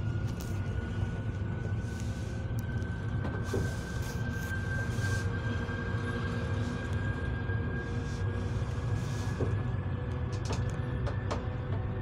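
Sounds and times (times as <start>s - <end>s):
train rumble with rising whine: 0.0s - 12.0s.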